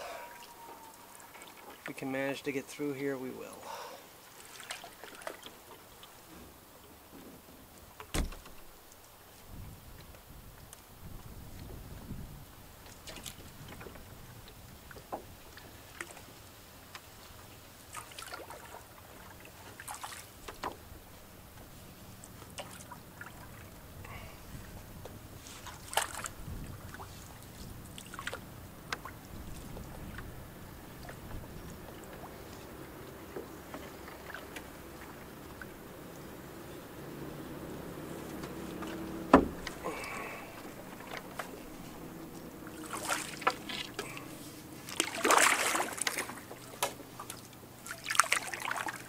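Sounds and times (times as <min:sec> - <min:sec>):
paddle strokes in water: 0:00.0 - 0:49.0.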